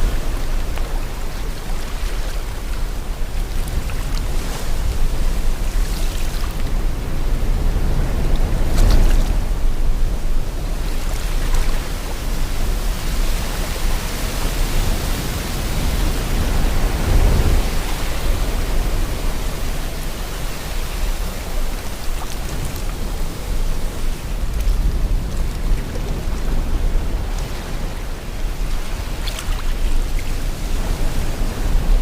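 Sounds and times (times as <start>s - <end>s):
sea water rushing: 0.0s - 32.0s
wind: 0.0s - 32.0s.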